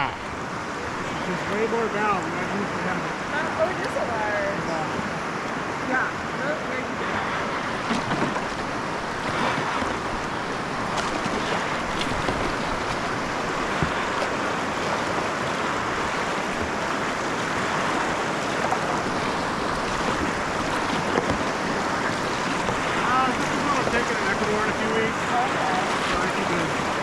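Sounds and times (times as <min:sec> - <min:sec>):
rushing river water: 0:00.0 - 0:27.0.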